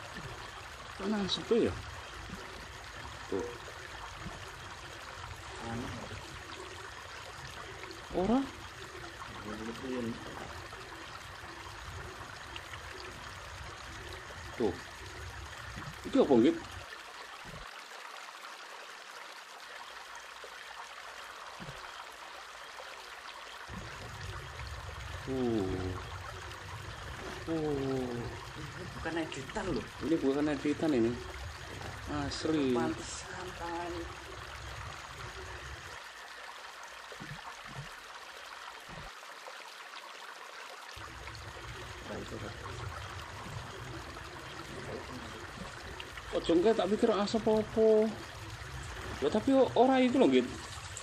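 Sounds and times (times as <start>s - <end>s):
flowing water rushing: 0.0s - 51.0s.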